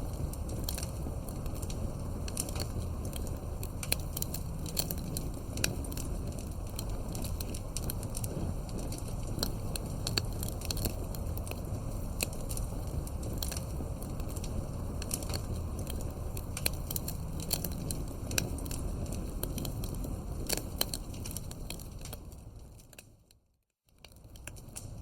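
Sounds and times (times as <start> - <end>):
fireplace crackling: 0.0 - 23.3, 24.0 - 25.0
low background noise: 0.0 - 23.3.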